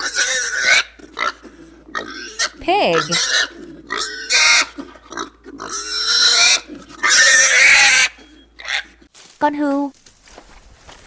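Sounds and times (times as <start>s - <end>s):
pig squealing grunts: 0.0s - 9.1s.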